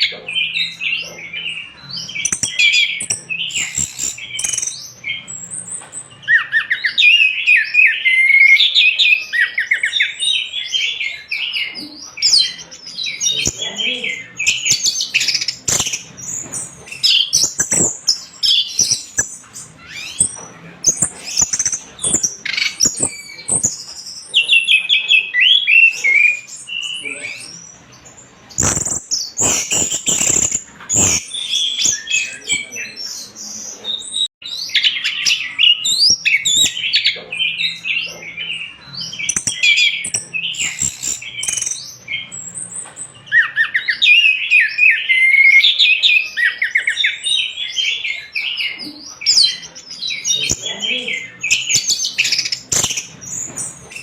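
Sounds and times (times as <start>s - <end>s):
bird singing chirps and trills: 0.0s - 54.0s.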